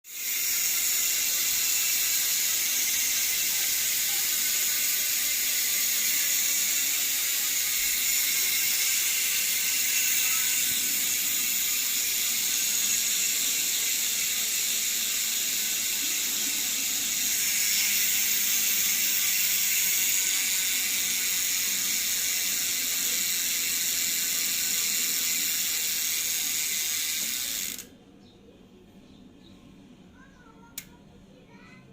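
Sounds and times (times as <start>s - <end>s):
bike hub ratchet buzzing: 0.1s - 27.9s.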